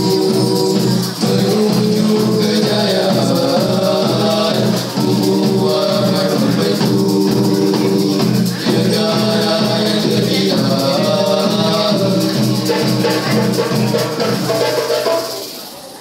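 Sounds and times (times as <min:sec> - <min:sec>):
vocal group singing in harmony: 0:00.0 - 0:15.4
hand drums: 0:00.0 - 0:15.6
shaker: 0:00.0 - 0:16.0.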